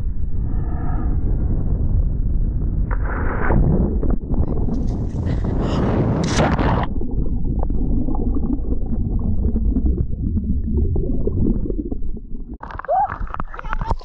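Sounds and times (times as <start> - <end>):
muffled underwater churning water: 0.2 - 14.0.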